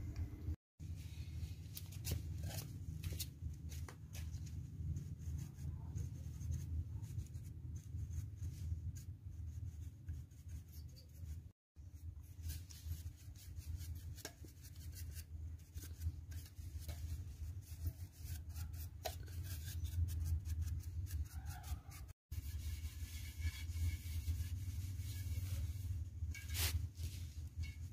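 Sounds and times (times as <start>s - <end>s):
scratchy brush strokes: 4.2s - 27.9s.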